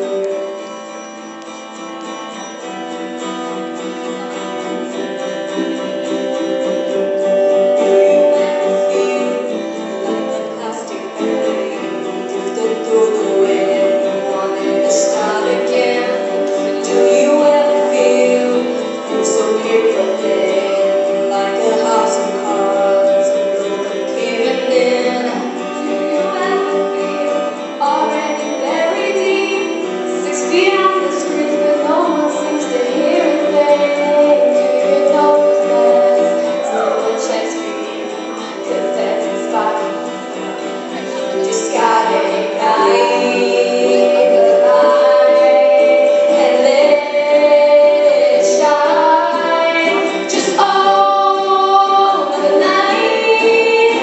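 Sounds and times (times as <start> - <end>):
guitars playing pop song: 0.0 - 54.0
women singing: 4.2 - 54.0.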